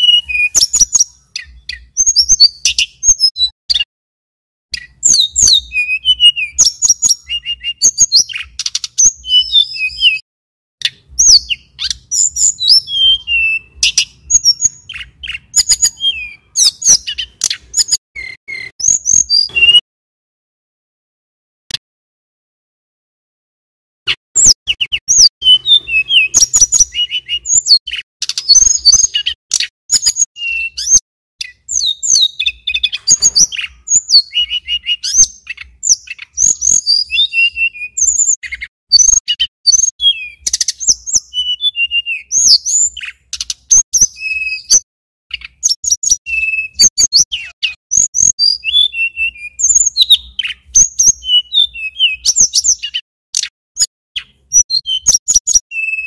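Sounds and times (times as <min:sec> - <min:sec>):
bird singing high chirps and trills: 0:00.0 - 0:03.9, 0:04.7 - 0:10.2, 0:10.8 - 0:19.8, 0:24.1 - 0:56.0.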